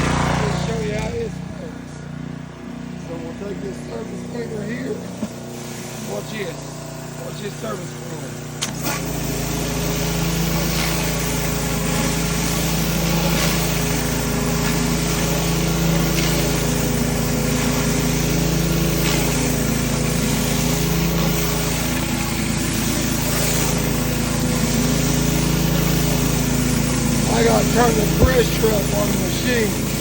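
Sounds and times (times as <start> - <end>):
pressure washer engine running: 0.0 - 30.0
water spraying on concrete: 0.0 - 30.0.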